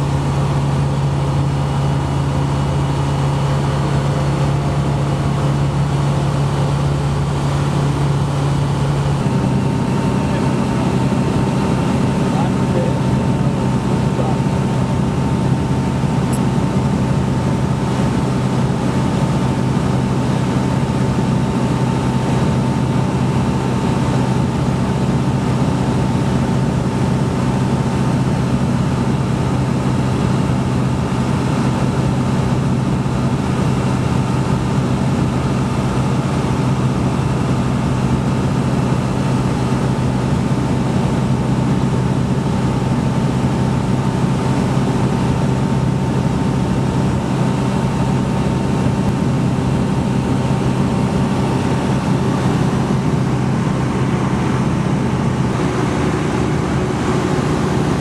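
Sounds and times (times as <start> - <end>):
aircraft engine and propeller: 0.0 - 58.0.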